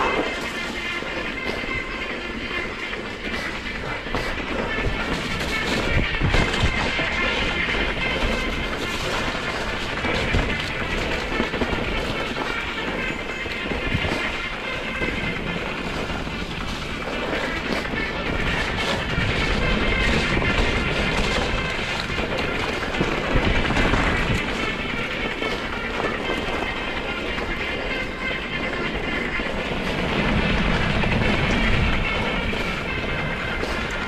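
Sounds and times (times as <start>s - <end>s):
bike rattling: 0.0s - 34.0s
bike tyres rolling on rough trail: 0.0s - 34.0s.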